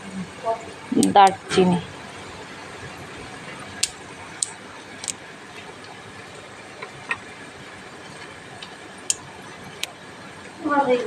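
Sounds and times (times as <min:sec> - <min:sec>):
boiling water hissing: 0:00.0 - 0:11.0.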